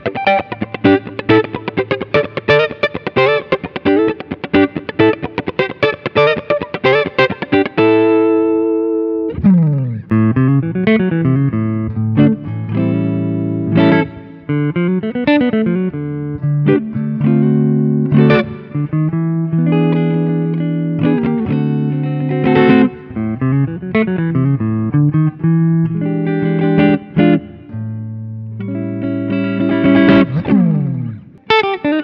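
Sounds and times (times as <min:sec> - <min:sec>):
electric guitar playing: 0:00.0 - 0:32.0.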